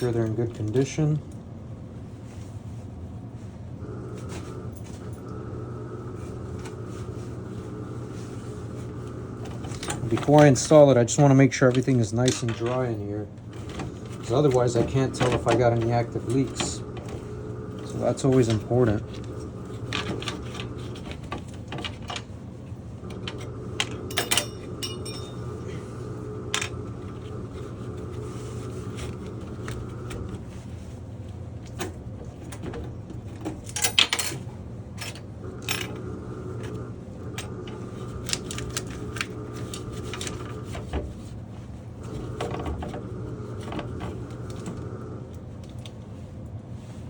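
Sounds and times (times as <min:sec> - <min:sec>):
low mechanical hum: 0:00.0 - 0:47.0
handling noises of tools: 0:06.5 - 0:47.0.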